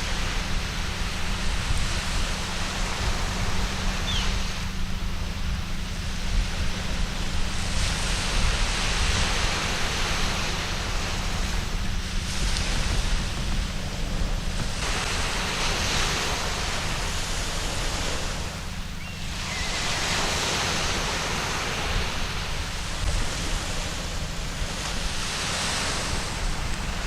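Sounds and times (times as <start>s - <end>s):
sea waves breaking on a beach: 0.0s - 27.0s.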